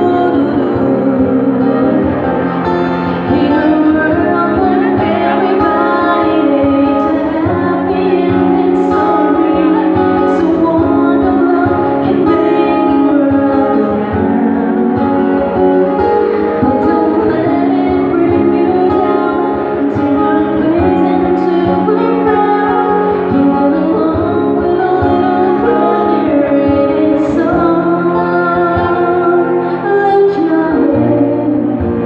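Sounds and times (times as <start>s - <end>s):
acoustic guitar: 0.0s - 32.0s
woman singing into microphone: 0.0s - 32.0s.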